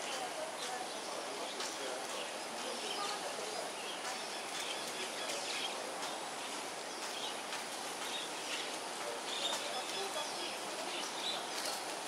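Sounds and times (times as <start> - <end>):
outdoor ambient hiss: 0.0 - 12.0.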